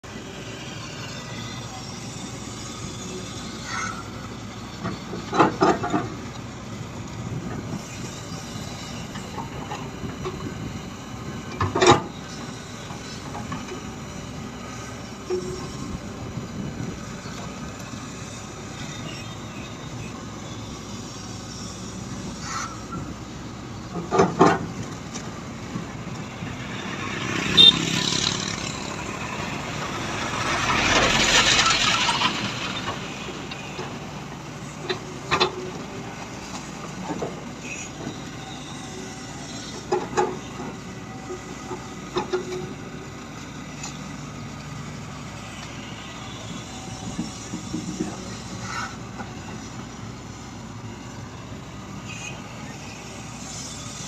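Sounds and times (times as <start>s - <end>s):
excavator engine drone: 0.0s - 54.0s.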